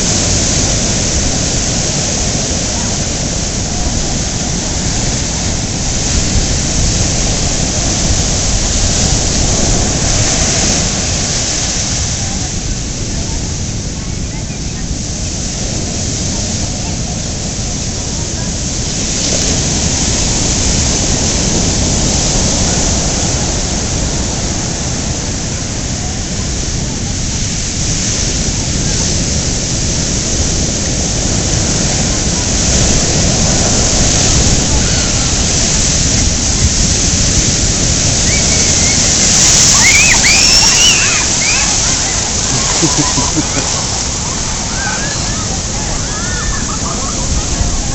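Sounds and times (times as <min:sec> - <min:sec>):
heavy surf: 0:00.0 - 0:47.9
hurricane wind rushing: 0:00.0 - 0:47.9.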